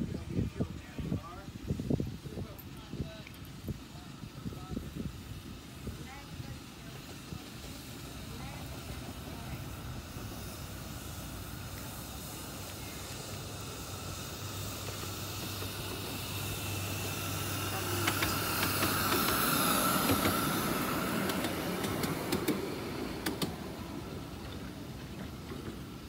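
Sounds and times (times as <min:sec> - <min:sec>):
miniature train passing: 0:00.0 - 0:26.0
sharp clicks of train wheels: 0:01.5 - 0:26.0.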